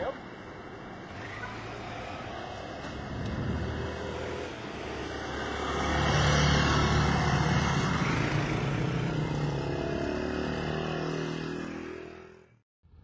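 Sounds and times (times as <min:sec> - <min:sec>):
motorcycle engine revving: 0:01.0 - 0:12.6.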